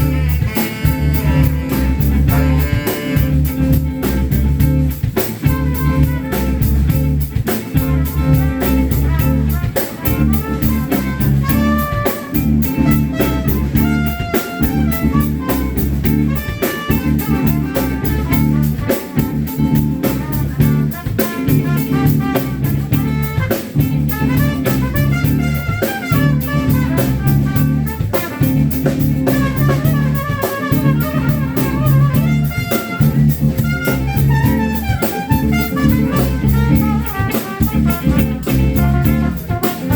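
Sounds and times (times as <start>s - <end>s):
brass horn section: 0.0s - 39.9s
drum kit beat: 0.0s - 39.9s
live band playing upbeat music: 0.0s - 39.9s.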